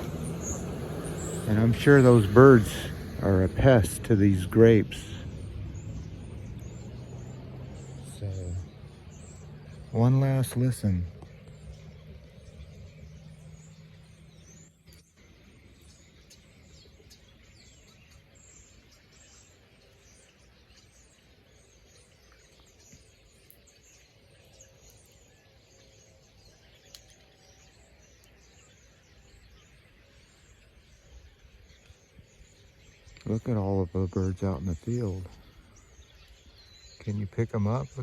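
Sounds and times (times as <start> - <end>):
distant highway traffic: 0.0 - 38.0
flock of birds chirping: 0.0 - 38.0.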